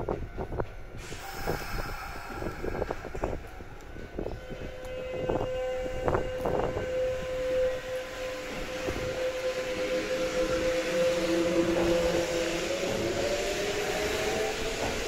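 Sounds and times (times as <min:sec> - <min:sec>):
train carriage rumble: 0:00.0 - 0:15.0
train inverter whine: 0:00.1 - 0:15.0.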